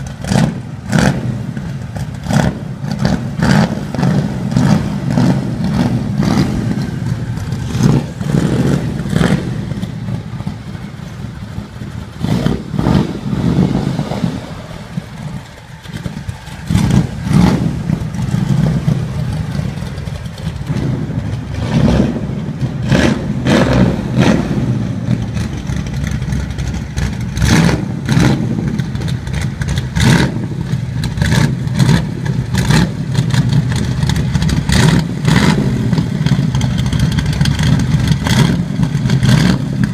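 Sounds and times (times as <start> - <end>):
car engine idling: 0.0 - 39.9
engine throttle blips: 0.0 - 39.9.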